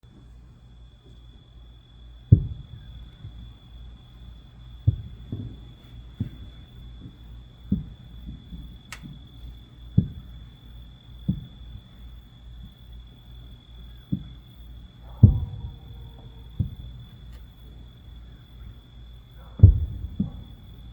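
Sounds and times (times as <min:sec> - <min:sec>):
distant fireworks booming: 0:00.0 - 0:20.9.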